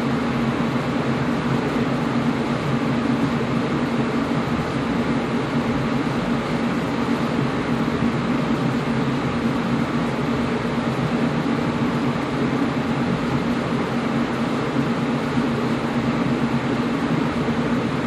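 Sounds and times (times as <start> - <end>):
air conditioner running: 0.0 - 18.0.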